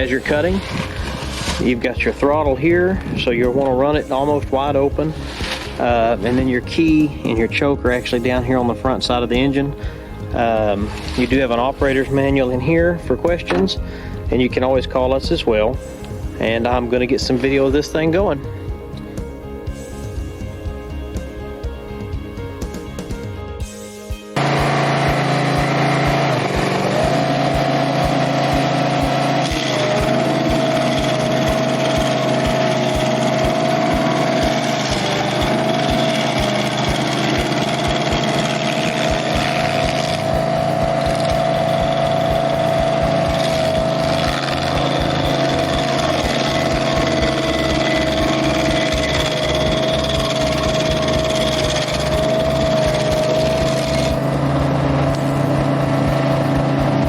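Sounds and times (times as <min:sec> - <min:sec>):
stump grinder engine with whine: 0:00.0 - 0:15.7, 0:24.4 - 0:57.0.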